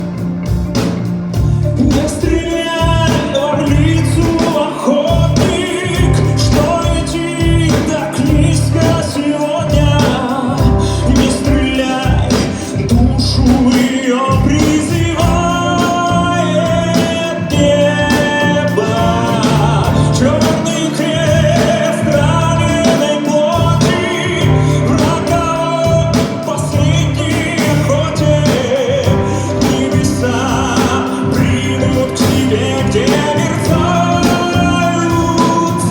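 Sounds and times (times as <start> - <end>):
band with guitar: 0.0 - 35.9
man singing: 1.4 - 35.9.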